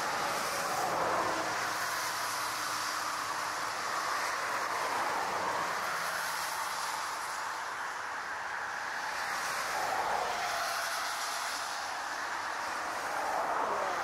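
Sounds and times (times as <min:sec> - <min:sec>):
jet engines and tyre spray rushing: 0:00.0 - 0:14.0.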